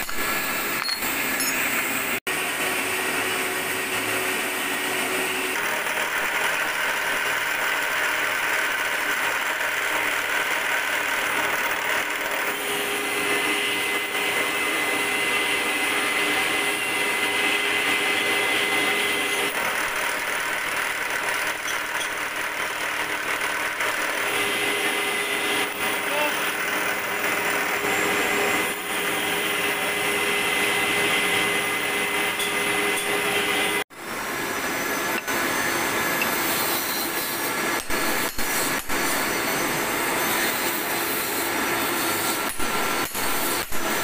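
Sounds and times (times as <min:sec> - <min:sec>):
high machine whine: 0:00.0 - 0:44.0
milling machine cutting metal: 0:00.0 - 0:44.0.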